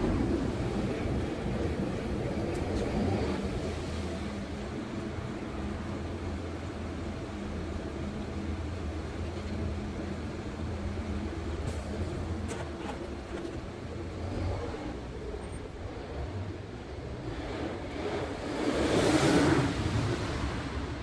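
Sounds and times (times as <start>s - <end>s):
low engine hum: 0.0s - 21.0s
street traffic noise: 0.0s - 21.0s.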